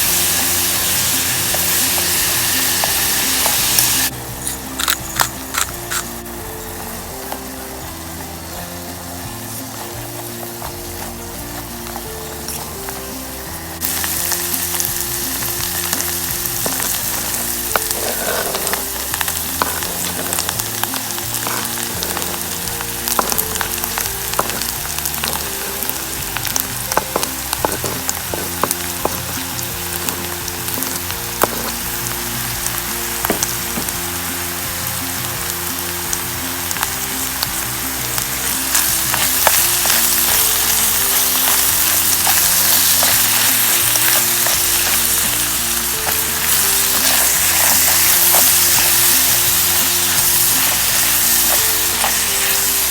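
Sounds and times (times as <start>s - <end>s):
food sizzling in a pan: 0.0s - 52.9s.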